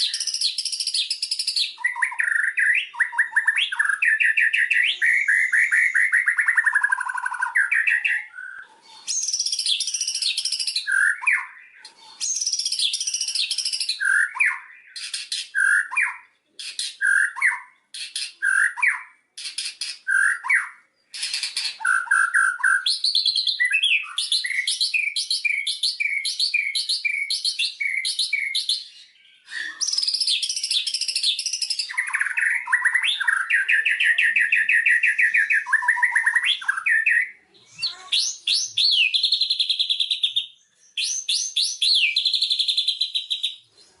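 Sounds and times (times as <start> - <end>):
bird singing with trills: 0.0 - 44.0.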